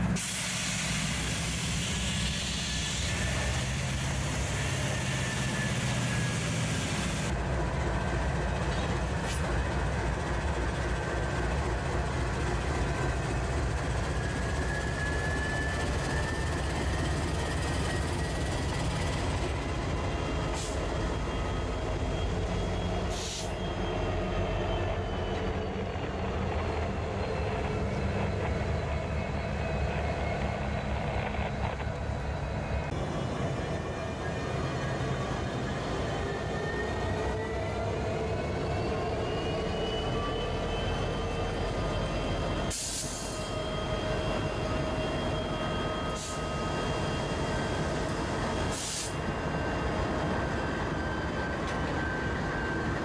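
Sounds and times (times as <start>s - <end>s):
diesel locomotives passing: 0.0s - 53.0s.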